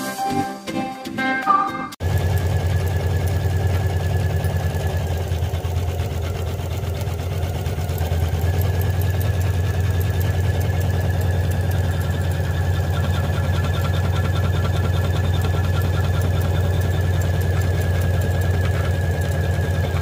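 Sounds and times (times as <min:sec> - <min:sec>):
embroidery machine stitching: 0:02.0 - 0:20.0.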